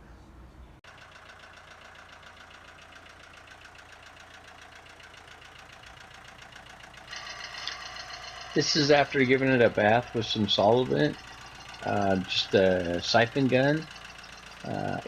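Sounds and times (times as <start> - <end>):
machine running rhythmically: 0.9 - 15.0.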